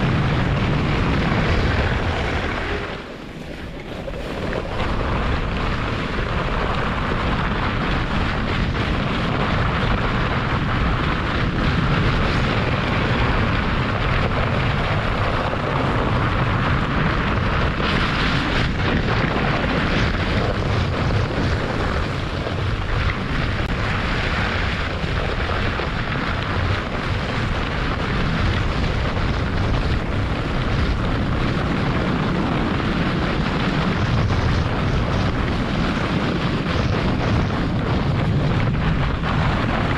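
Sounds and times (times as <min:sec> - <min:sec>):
sled runners scraping over snow: 0:00.0 - 0:39.9
wind rushing over microphone: 0:00.0 - 0:39.9.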